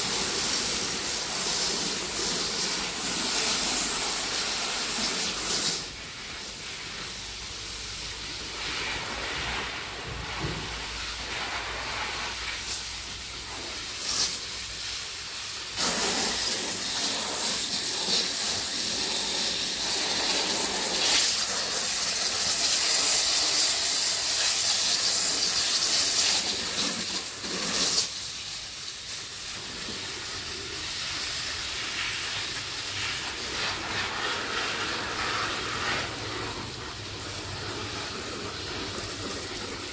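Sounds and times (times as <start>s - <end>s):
steady hissing noise: 0.0s - 39.9s.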